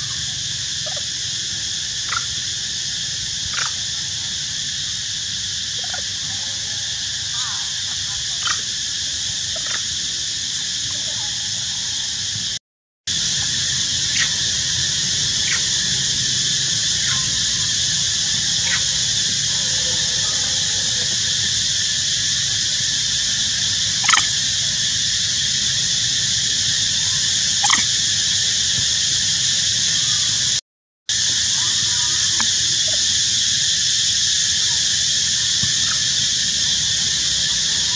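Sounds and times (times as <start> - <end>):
insect chorus: 0.0 - 37.9.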